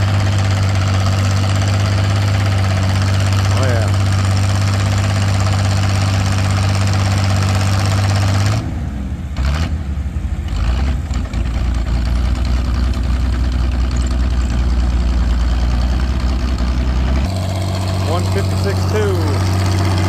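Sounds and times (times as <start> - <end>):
tractor engine revving: 0.0 - 20.0.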